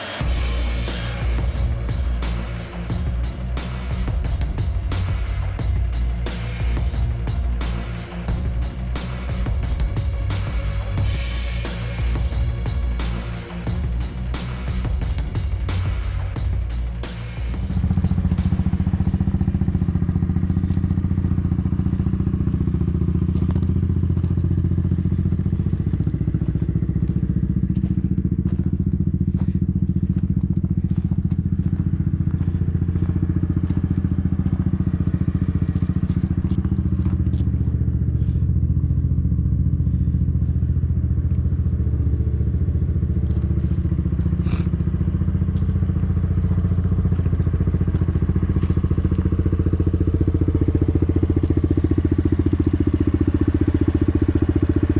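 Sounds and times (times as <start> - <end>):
engine droning steadily: 0.0 - 54.9.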